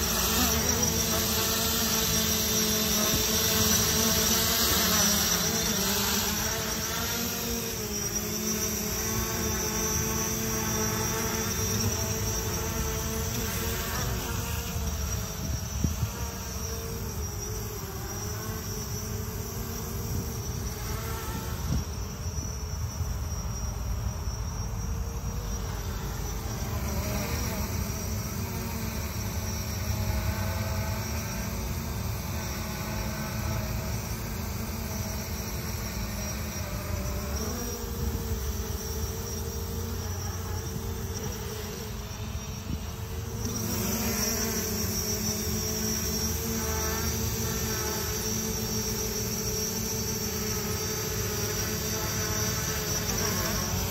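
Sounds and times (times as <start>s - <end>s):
drone propellers buzzing: 0.0s - 22.5s, 26.2s - 53.9s.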